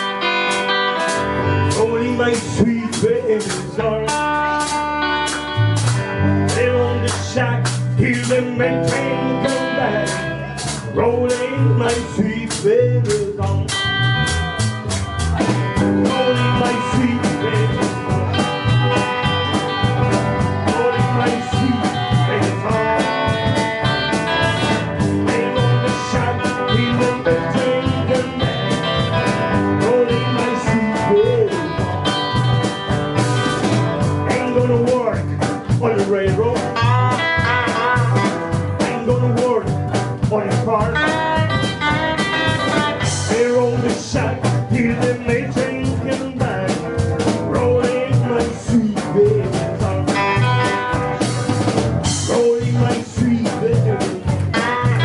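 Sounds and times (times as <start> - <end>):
drum kit steady beat: 0.0 - 55.0
electric bass: 0.0 - 55.0
electric guitar lead: 0.0 - 55.0.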